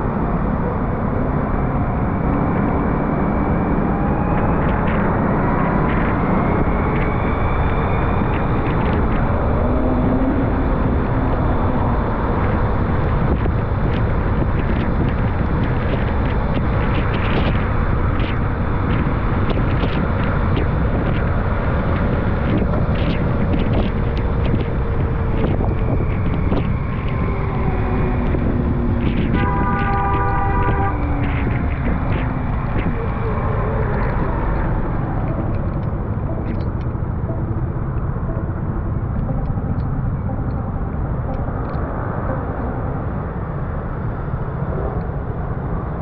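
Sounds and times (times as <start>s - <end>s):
faint engine drone: 0.0s - 46.0s
road and tyre noise: 0.0s - 46.0s.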